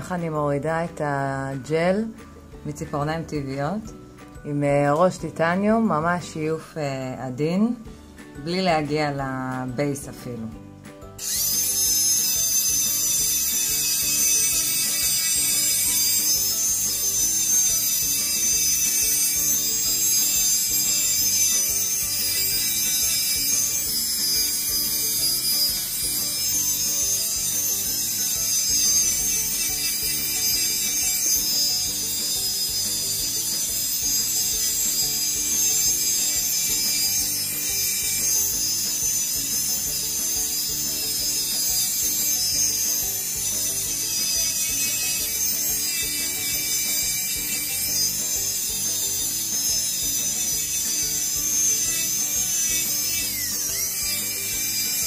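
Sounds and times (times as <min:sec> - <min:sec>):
electric nail drill whining: 0:07.4 - 0:55.0.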